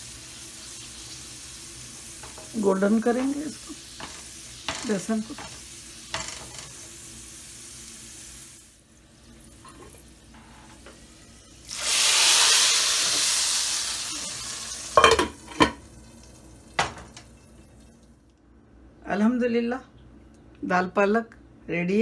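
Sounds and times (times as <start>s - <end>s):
hot oil sizzling: 0.0s - 18.0s
garlic frying gently in oil: 0.0s - 18.3s.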